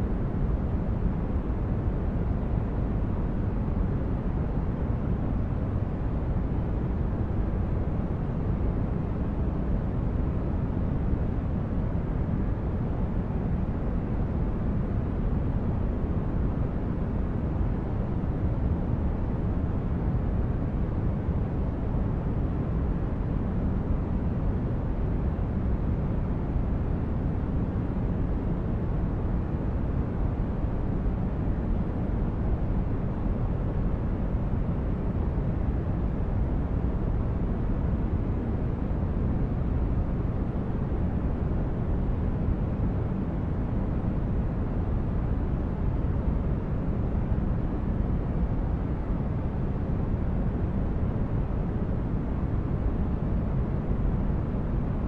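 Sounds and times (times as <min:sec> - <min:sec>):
low white noise: 0:00.0 - 0:55.0.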